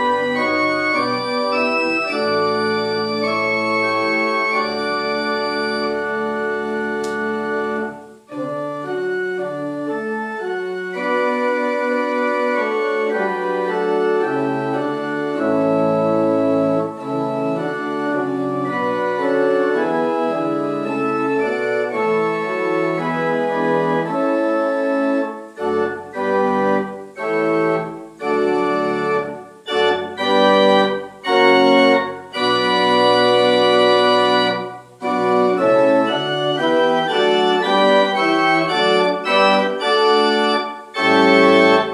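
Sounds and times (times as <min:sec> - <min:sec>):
organ chords: 0:00.0 - 0:41.9.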